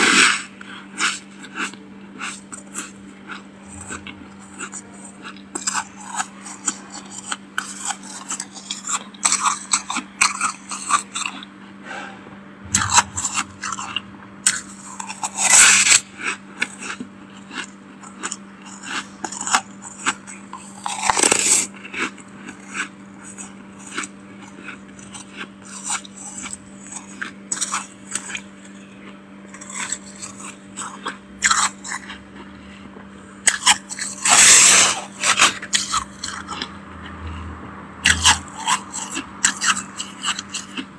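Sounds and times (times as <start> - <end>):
freezer frost crunching: 0.0 - 11.5, 12.6 - 36.7, 38.1 - 40.9
steady low hum: 0.0 - 40.9.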